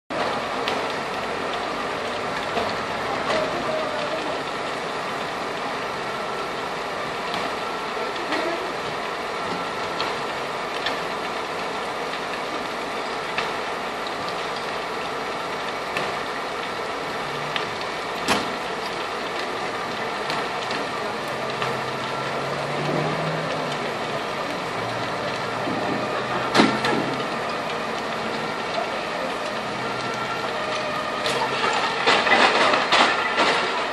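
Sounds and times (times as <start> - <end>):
fire engine pump running: 0.1 - 33.9.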